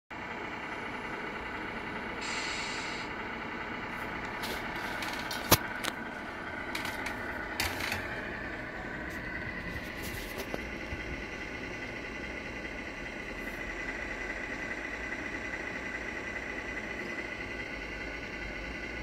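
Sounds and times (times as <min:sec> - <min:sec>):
truck engine idling: 0:00.1 - 0:19.0.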